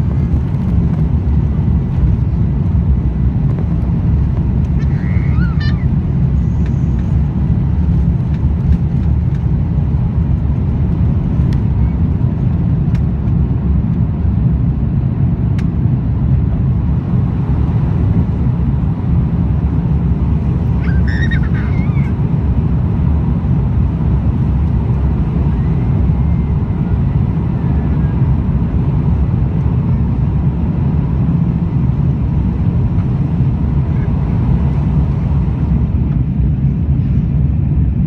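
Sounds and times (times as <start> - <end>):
jet engine roar in cabin: 0.0 - 38.0.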